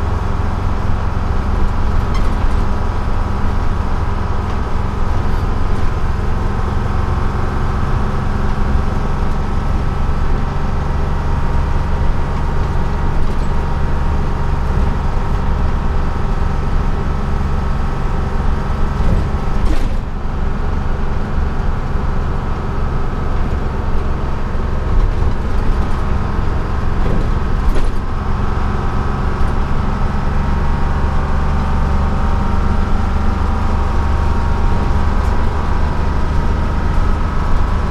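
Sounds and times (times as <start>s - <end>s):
diesel bus engine running: 0.0s - 37.9s
road noise: 0.0s - 37.9s.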